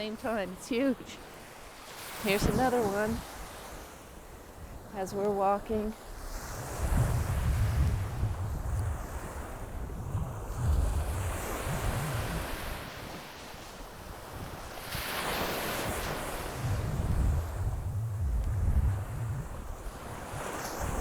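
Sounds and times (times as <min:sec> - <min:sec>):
ocean surf washing on beach: 0:00.0 - 0:21.0
wind buffeting microphone: 0:02.0 - 0:21.0.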